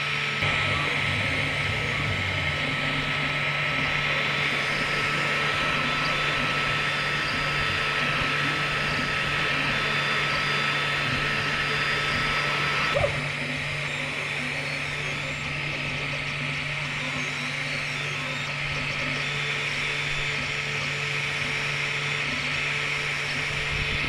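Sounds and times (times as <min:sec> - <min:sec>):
printer mechanical whir: 0:00.0 - 0:24.0.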